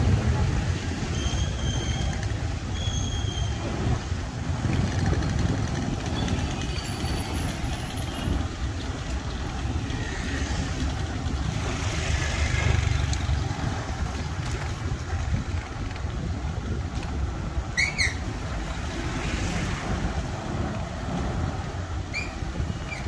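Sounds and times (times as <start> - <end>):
traffic rumble and road noise: 0.0 - 23.0.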